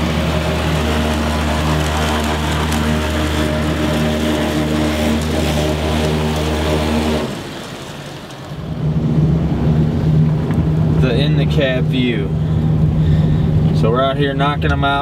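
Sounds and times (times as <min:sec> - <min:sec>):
truck engine running: 0:00.0 - 0:15.0
vehicle engine humming: 0:00.0 - 0:15.0.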